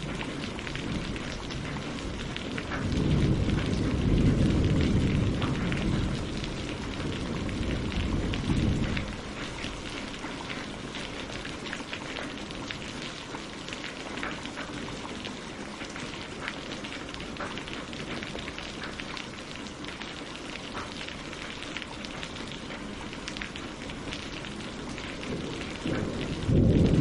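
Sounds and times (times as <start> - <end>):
rain on leaves and water: 0.0 - 27.0.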